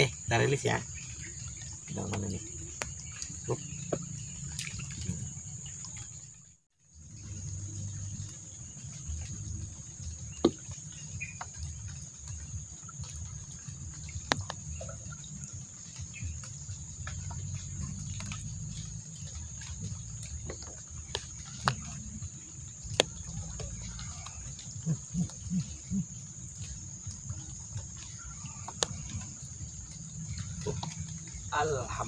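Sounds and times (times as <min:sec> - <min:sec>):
low rumbling background: 0:00.0 - 0:32.0
night insects droning: 0:00.0 - 0:32.0.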